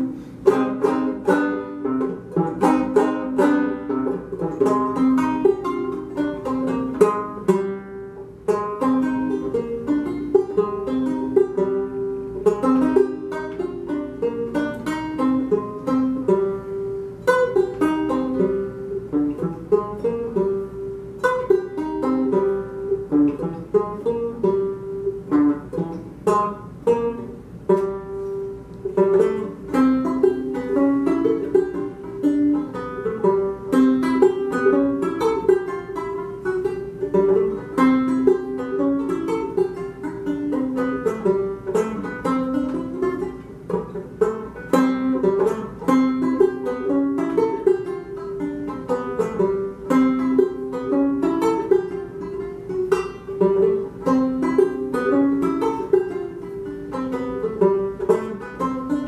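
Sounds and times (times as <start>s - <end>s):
banjo playing: 0.0s - 59.0s.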